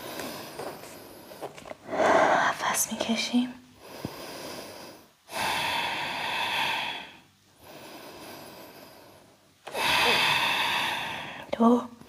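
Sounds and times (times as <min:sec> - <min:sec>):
person breathing close: 0:00.0 - 0:02.6, 0:03.8 - 0:11.5.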